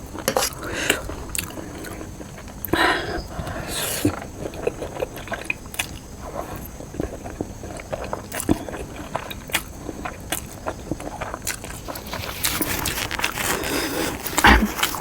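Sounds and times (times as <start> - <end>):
chewing with wet smacks: 0.1 - 2.8, 3.5 - 15.0.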